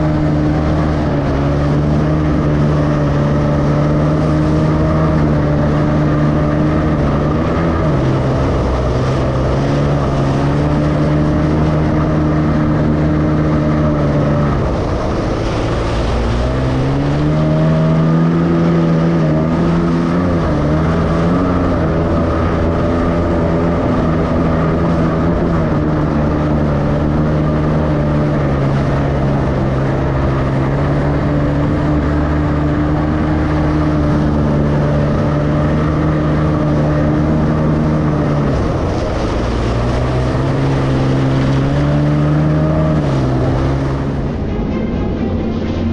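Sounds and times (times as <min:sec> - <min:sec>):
jet ski engine running: 0:00.0 - 0:45.9.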